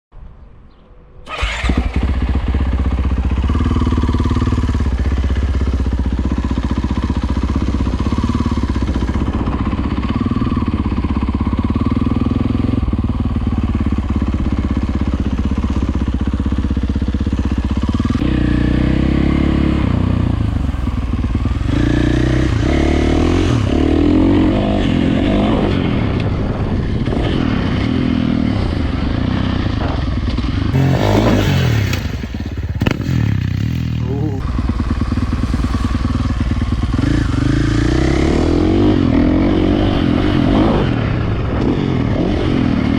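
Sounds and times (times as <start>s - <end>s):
dirt bike engine revving: 1.3s - 26.2s, 30.5s - 42.9s.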